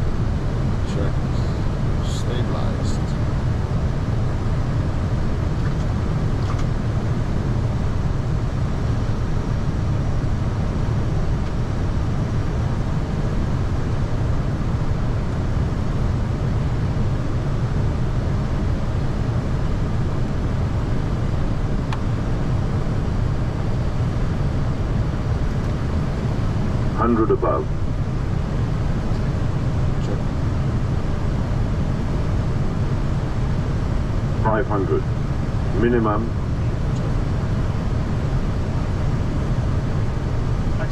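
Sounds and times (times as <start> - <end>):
airplane cockpit rumble: 0.0 - 40.9.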